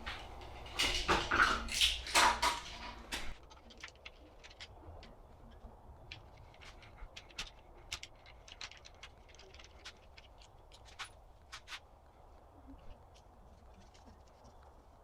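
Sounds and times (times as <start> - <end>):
small clicks and scrapes: 0.0 - 15.0.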